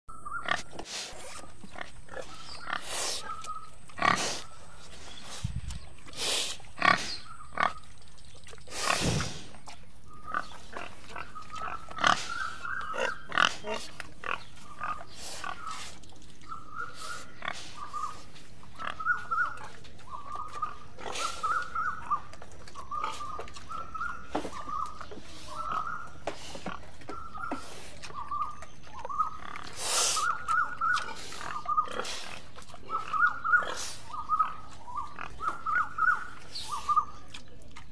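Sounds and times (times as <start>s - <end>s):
boars snorting and sniffing: 0.2s - 37.9s
boars grunting: 0.3s - 4.8s, 8.7s - 37.9s.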